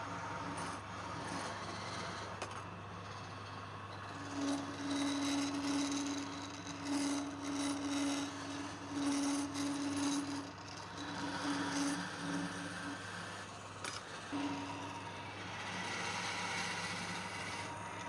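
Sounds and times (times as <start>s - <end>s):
tool scraping spinning wood: 0.0s - 18.0s
wood lathe hum: 0.0s - 18.0s.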